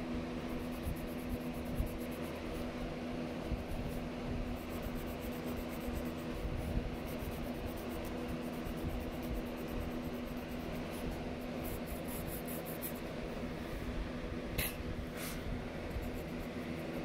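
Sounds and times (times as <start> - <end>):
steady background hum: 0.0 - 17.0
pencil scratching on paper: 0.5 - 13.1, 15.9 - 17.0.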